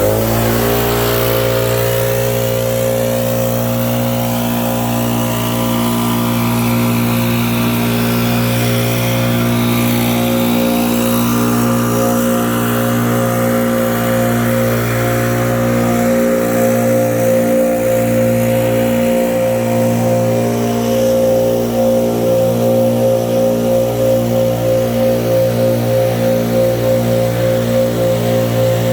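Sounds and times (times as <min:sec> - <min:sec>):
small engine running: 0:00.0 - 0:28.9.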